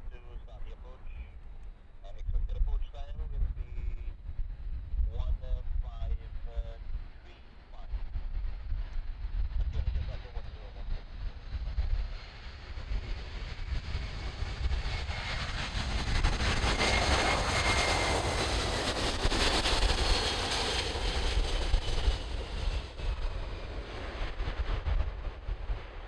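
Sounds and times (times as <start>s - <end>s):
jet aircraft passing low: 0.0s - 26.0s.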